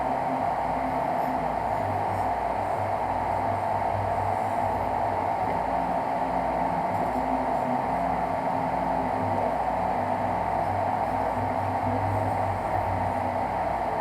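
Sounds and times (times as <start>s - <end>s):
fan hiss: 0.0s - 14.0s.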